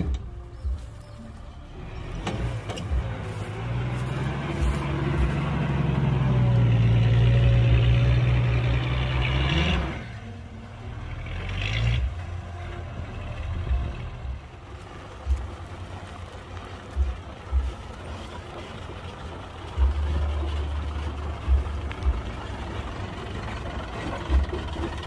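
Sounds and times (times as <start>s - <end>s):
heavy diesel engine revving: 0.0s - 25.0s.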